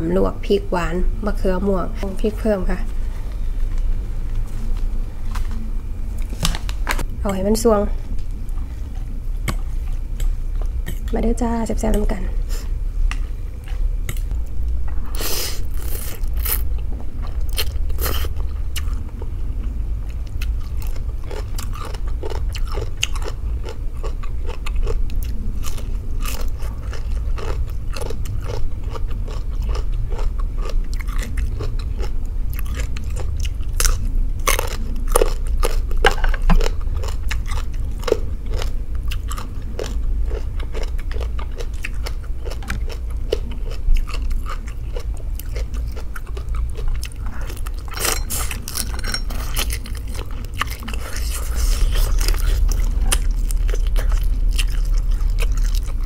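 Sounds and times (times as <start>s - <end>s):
steady low hum: 0.0s - 56.0s
person chewing and crunching food: 8.1s - 11.2s, 11.9s - 56.0s.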